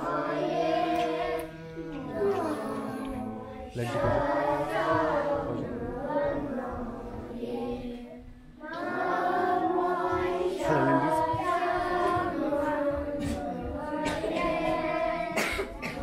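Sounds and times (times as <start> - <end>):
young voices singing chant: 0.0 - 16.0.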